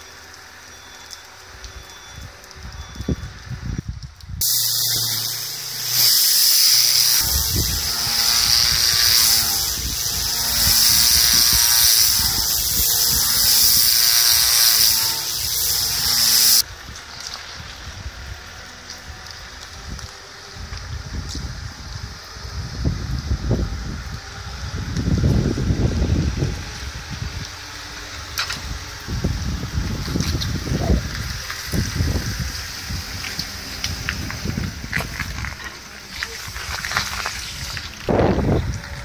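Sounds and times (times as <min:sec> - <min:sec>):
pressure washer water jet hissing: 0:04.4 - 0:18.0, 0:18.6 - 0:38.2.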